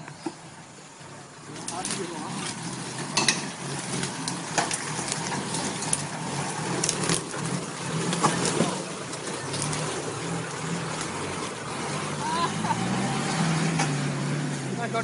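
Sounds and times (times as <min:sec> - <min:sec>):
vehicle engine running low: 0:00.0 - 0:15.0.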